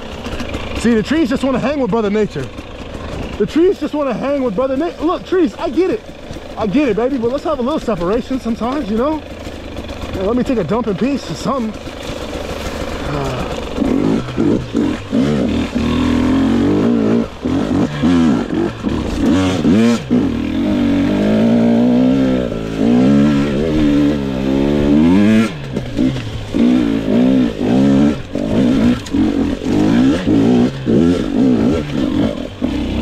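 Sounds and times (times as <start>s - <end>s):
two-stroke dirt bike engine revving: 0.0s - 33.0s.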